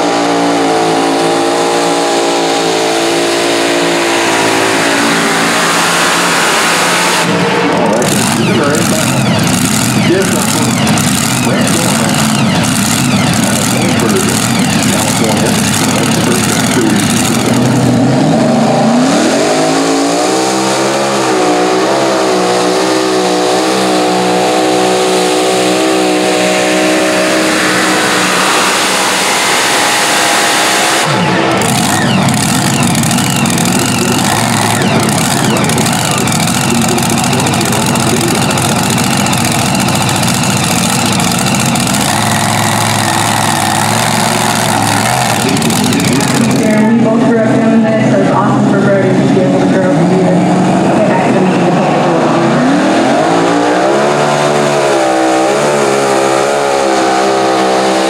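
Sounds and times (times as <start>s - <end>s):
tractor engines at full throttle: 0.0s - 58.0s.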